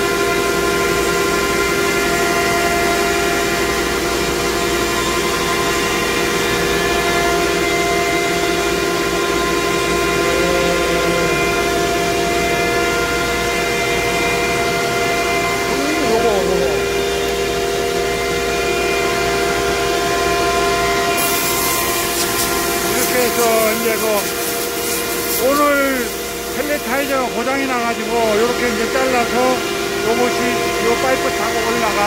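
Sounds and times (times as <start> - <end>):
blower whine: 0.0 - 32.0
machine hum: 0.0 - 32.0.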